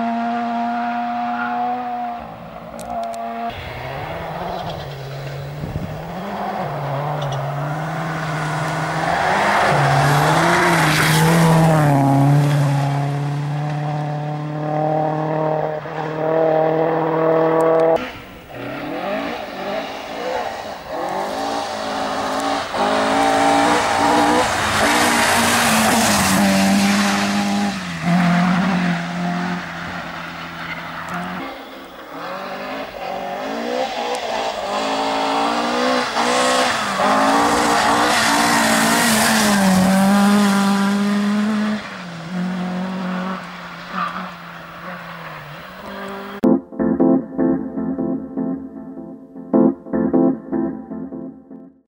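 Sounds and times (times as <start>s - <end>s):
rally car engines revving: 0.0s - 46.5s.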